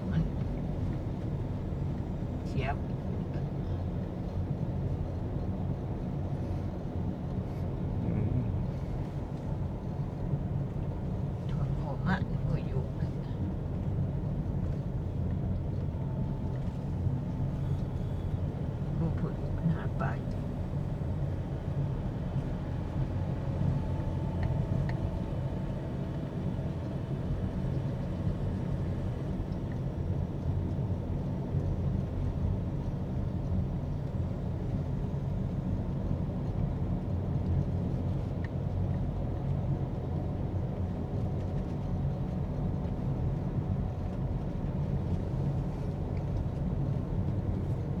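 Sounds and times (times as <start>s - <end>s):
vehicle engine and road noise: 0.0s - 48.0s.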